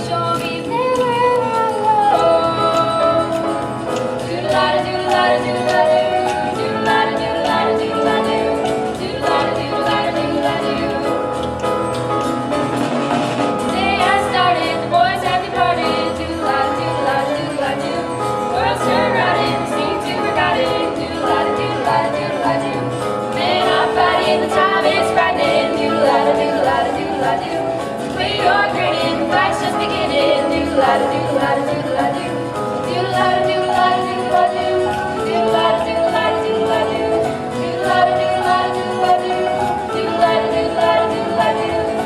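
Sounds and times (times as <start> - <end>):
instrumental accompaniment: 0.0 - 42.0
people singing: 0.0 - 42.0.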